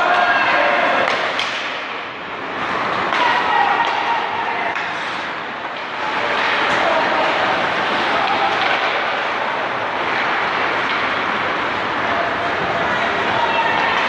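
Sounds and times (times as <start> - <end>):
hubbub of spectators: 0.0 - 14.0.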